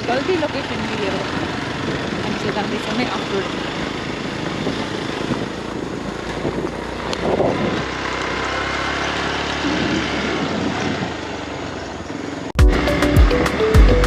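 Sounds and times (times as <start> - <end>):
road noise: 0.0 - 14.0
vehicle engine noise: 0.0 - 14.0.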